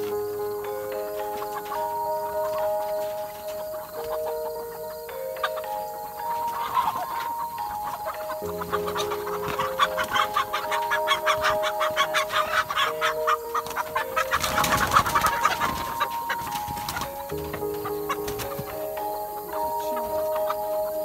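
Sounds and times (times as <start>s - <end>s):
background music of held notes: 0.0s - 21.0s
hens clucking and squawking: 0.0s - 21.0s
rustling: 0.0s - 21.0s.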